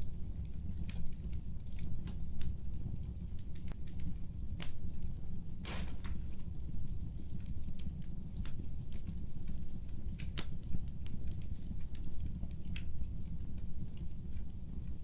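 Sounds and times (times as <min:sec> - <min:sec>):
fireplace fire crackling: 0:00.0 - 0:15.0
low rumble of flames: 0:00.0 - 0:15.0.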